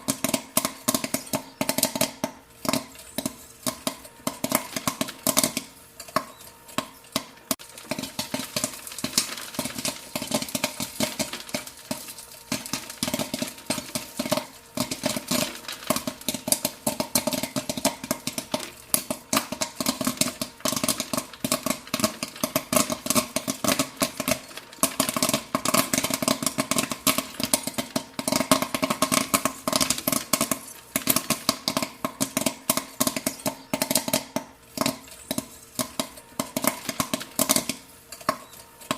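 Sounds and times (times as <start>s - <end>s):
popcorn popping: 0.0s - 38.9s.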